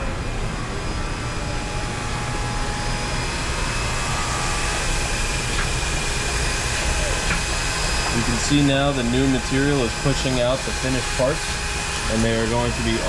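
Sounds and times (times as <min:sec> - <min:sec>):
cutting machine drone and hiss: 0:00.0 - 0:13.0.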